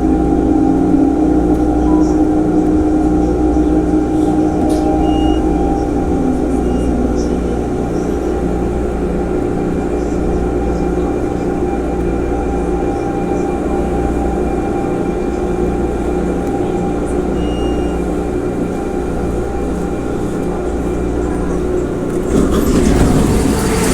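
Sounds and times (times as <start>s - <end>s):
electric train motors humming: 0.0s - 23.9s.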